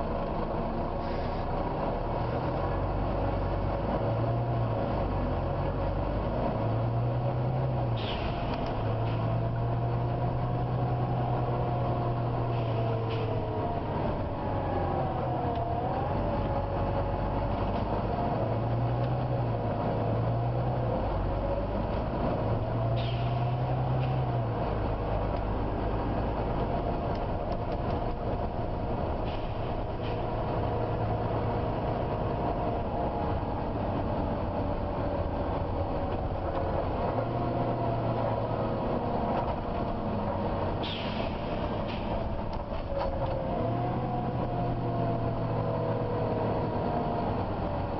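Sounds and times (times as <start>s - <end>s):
bus engine whining: 0.0s - 47.9s.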